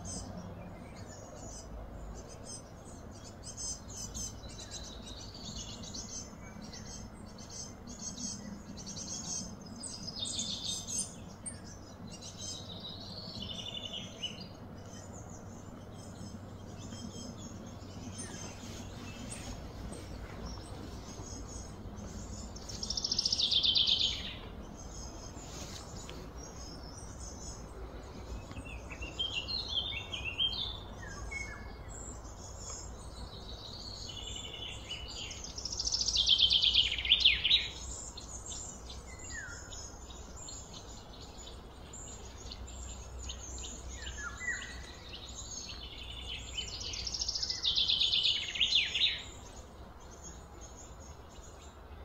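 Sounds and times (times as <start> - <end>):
low outdoor rumble: 0.0 - 52.0
soft bird chirps: 0.0 - 52.0.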